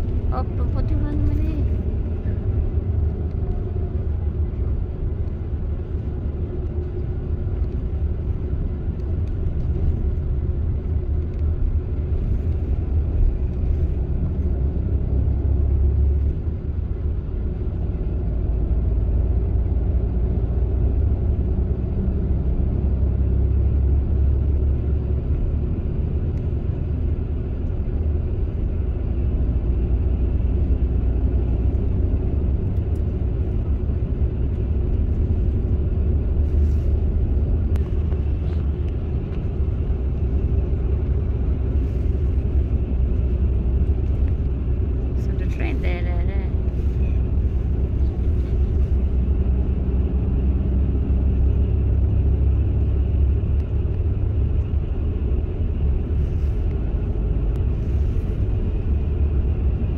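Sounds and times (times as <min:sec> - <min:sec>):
bus engine and tyre rumble: 0:00.0 - 0:59.9.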